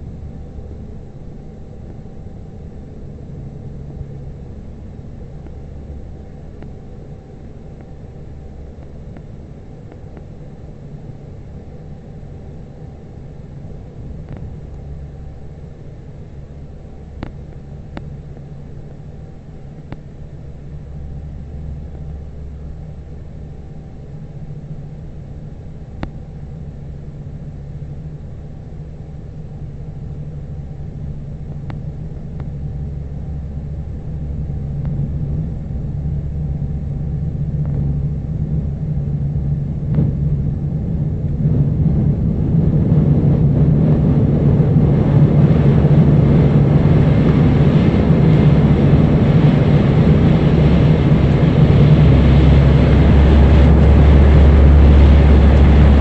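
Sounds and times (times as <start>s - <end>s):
airliner cabin engine rumble: 0.0s - 56.0s
low hum: 0.0s - 56.0s.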